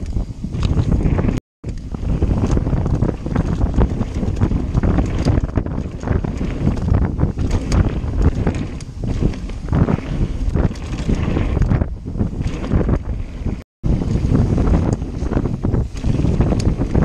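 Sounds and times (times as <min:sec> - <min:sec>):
bike knocks and rattles: 0:00.0 - 0:17.0
wind buffeting microphone: 0:00.0 - 0:17.0
tyres rumbling on dirt: 0:00.5 - 0:17.0.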